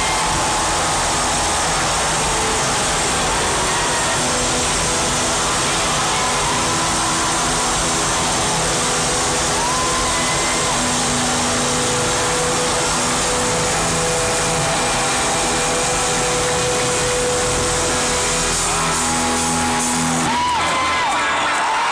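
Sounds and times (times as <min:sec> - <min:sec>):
distorted live rock band: 0:00.0 - 0:21.9.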